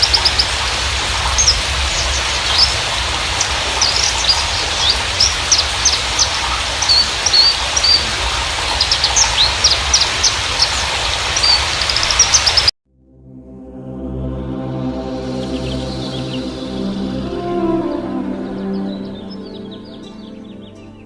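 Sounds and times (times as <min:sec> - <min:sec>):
bird chirps and trills: 0:00.0 - 0:12.7, 0:15.4 - 0:21.0.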